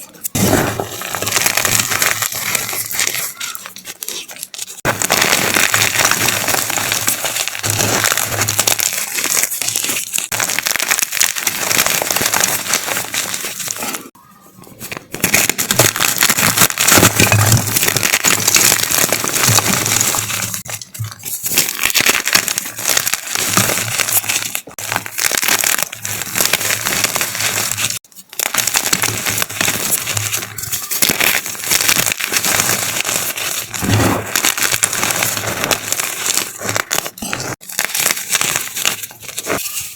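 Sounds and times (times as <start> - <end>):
chalk crushing and crumbling: 0.0 - 39.9.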